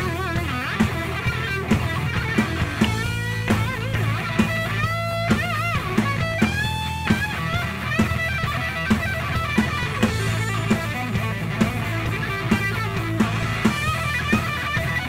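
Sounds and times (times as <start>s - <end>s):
bass guitar: 0.0s - 15.0s
distorted electric guitar lead: 0.0s - 15.0s
drum beat: 0.0s - 15.0s.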